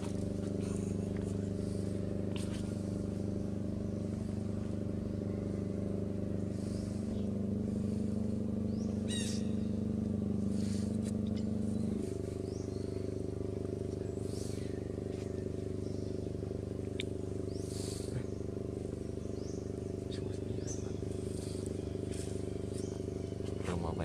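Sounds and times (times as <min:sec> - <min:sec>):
engine idling hum: 0:00.0 - 0:24.0.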